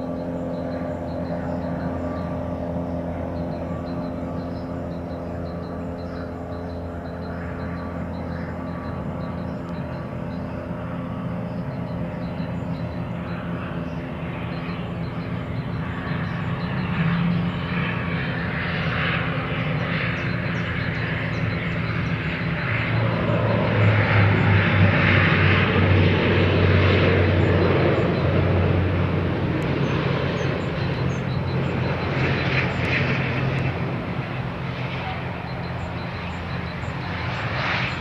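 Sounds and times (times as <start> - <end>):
turboprop propeller drone: 0.0 - 38.0.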